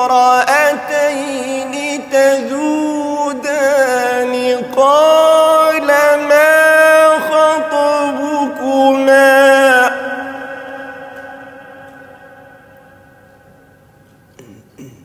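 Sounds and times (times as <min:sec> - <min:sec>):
man reciting melodically: 0:00.0 - 0:13.7.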